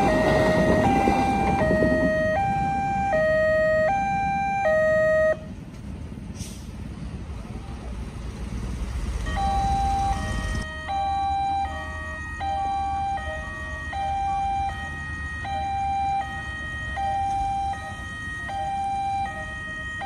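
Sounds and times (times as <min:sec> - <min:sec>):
two-tone crossing alarm: 0:00.0 - 0:05.5, 0:09.2 - 0:20.0.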